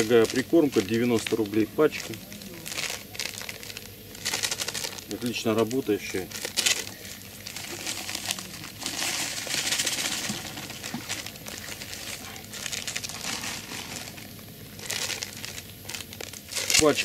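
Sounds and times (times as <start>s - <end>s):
dry groundbait pouring into bucket: 0.0s - 17.0s
plastic packet crinkling: 0.0s - 17.0s.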